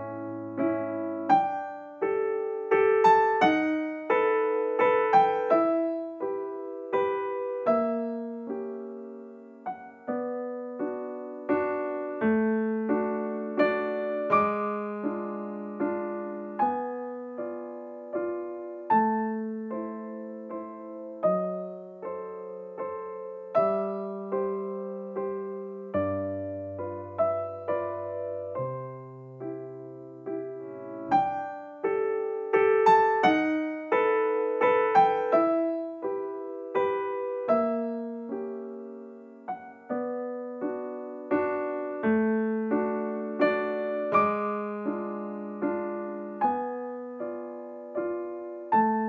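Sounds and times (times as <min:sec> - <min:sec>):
solo piano melody: 0:00.0 - 0:49.0.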